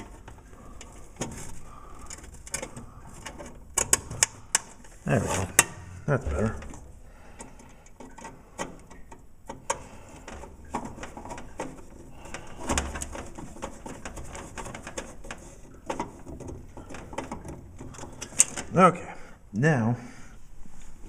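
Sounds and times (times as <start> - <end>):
tools clicking and knocking: 0.0 - 18.7.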